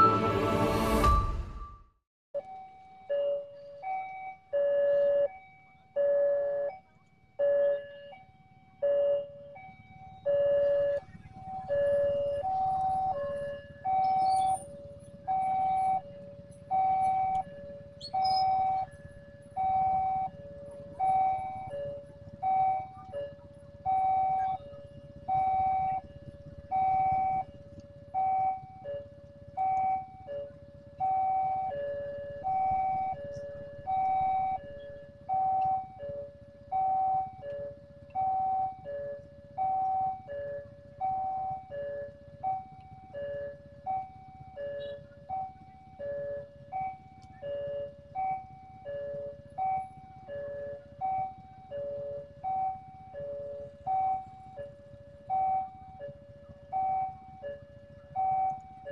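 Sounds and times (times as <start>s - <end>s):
level-crossing two-note alarm: 0.0s - 1.8s, 2.4s - 58.9s.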